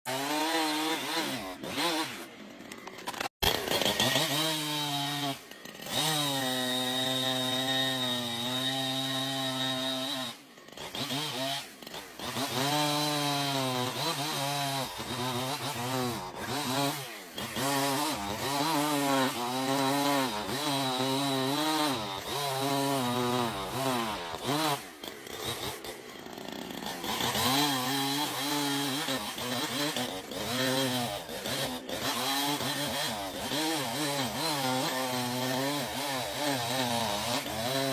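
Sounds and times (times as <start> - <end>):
chainsaw cutting wood: 0.0 - 37.9.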